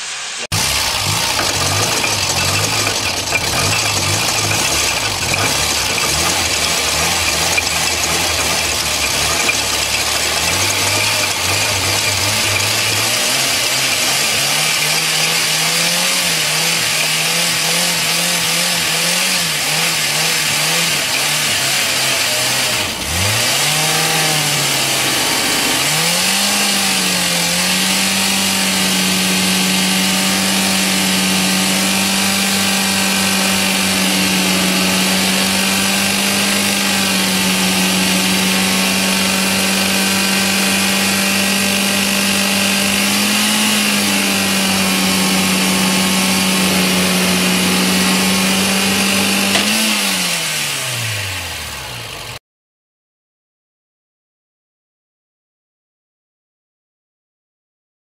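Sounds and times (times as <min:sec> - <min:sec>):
car engine running: 0:00.1 - 0:52.4.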